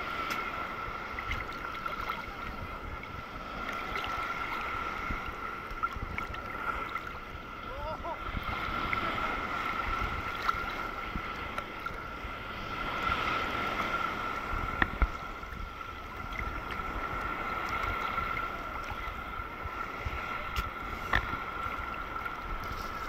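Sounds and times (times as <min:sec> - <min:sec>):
sea water sloshing: 0:00.0 - 0:23.0.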